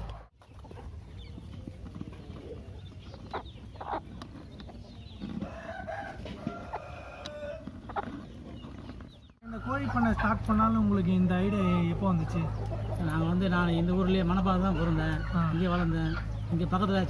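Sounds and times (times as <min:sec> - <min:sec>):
chickens clucking and calling: 0:00.0 - 0:17.0.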